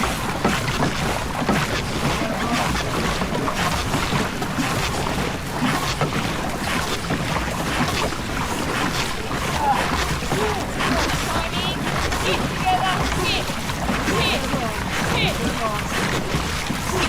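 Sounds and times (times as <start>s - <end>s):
water rushing along boat hull: 0.0s - 17.0s.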